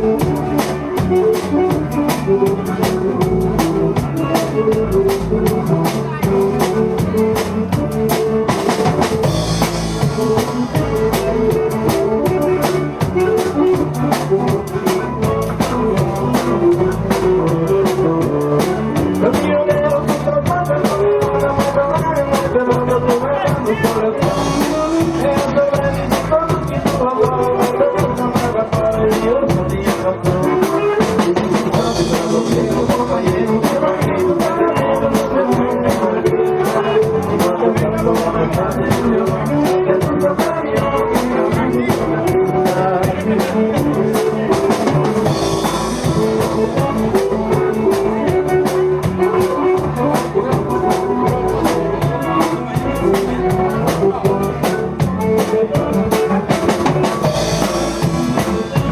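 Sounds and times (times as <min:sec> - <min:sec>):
band playing dance music: 0:00.0 - 0:58.9
steady drum beat: 0:00.0 - 0:58.9.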